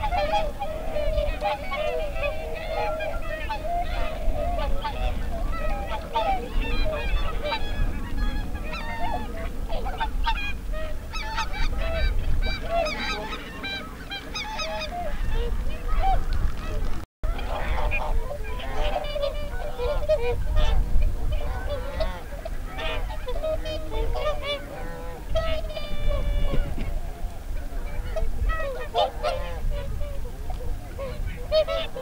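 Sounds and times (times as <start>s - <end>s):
swans honking: 0.0s - 32.0s.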